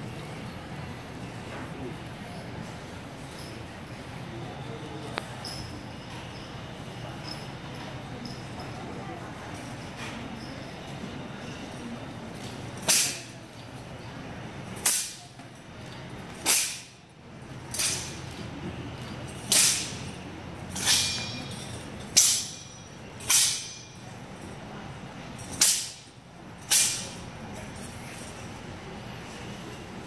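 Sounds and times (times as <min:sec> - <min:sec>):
low hall murmur: 0:00.0 - 0:30.0.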